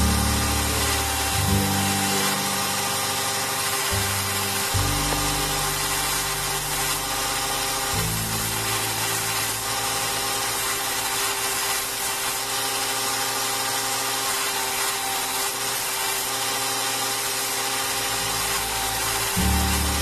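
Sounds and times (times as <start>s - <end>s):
background music: 0.0s - 13.0s, 13.7s - 20.0s
electric power tool running: 0.0s - 20.0s.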